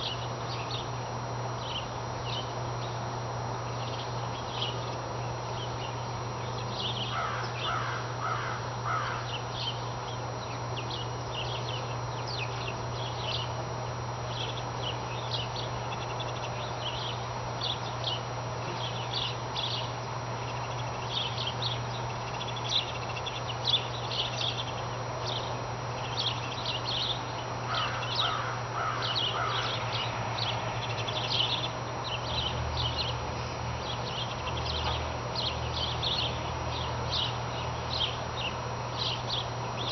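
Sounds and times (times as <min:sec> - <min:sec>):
steady low hum: 0:00.0 - 0:39.9
harsh bird calls: 0:05.6 - 0:13.6, 0:14.3 - 0:39.9.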